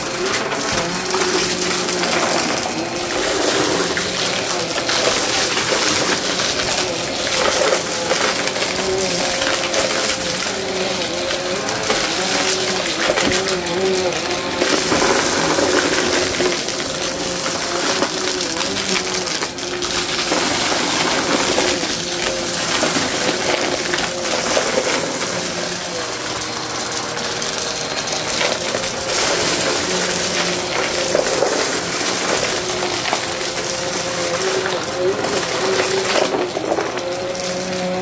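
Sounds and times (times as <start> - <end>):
debris rattling through vacuum: 0.0 - 38.0
vacuum cleaner motor whine: 0.0 - 38.0.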